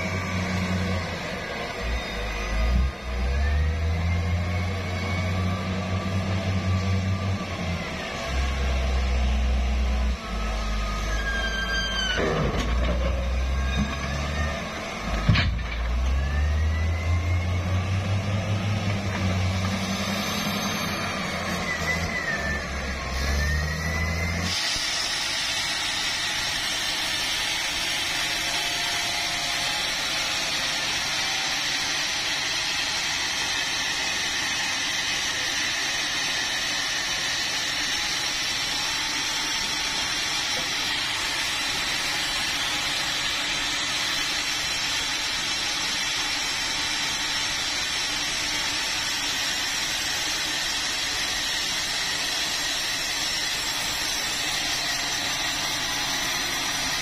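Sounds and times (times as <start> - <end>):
saw cutting through a log: 0.0 - 57.0.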